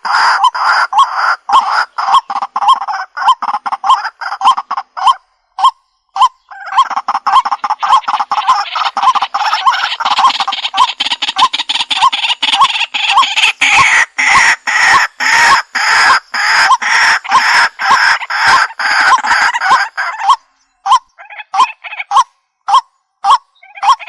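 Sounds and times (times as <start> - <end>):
bird harsh croaking calls: 0.0 - 24.0.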